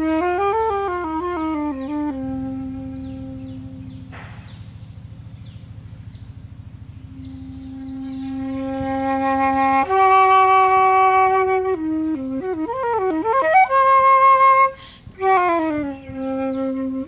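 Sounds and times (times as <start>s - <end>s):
solo flute playing: 0.0s - 4.6s, 7.1s - 17.0s.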